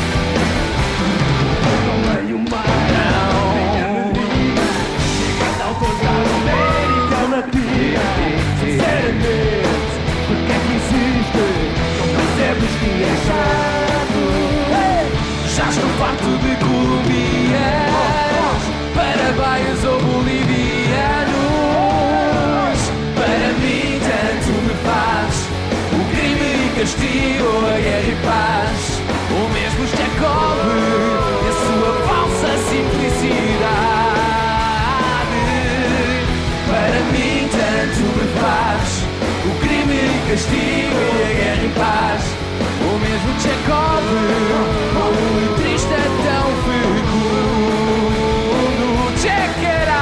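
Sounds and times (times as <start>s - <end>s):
live rock band playing: 0.0s - 50.0s
men singing: 1.8s - 50.0s.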